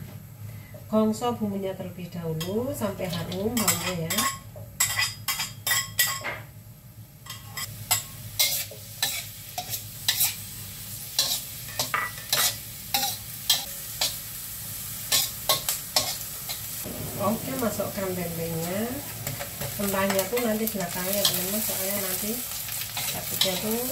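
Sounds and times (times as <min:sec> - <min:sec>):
food sizzling in a wok: 0:02.5 - 0:23.9.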